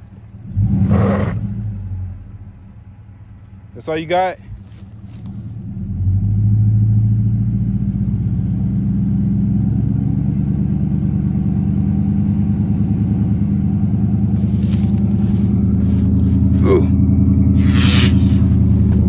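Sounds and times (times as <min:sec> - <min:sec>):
truck engine revving: 0:00.0 - 0:02.3, 0:05.7 - 0:19.0.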